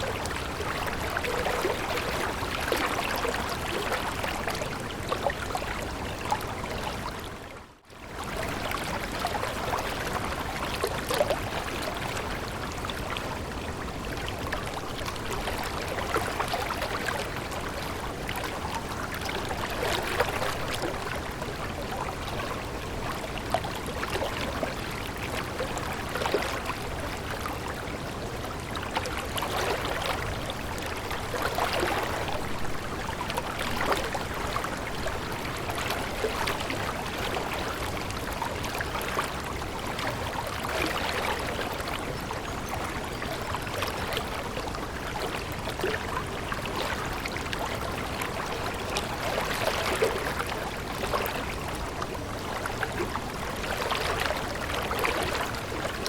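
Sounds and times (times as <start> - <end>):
small water splashes: 0.0 - 56.0
stream water trickling: 0.0 - 56.0.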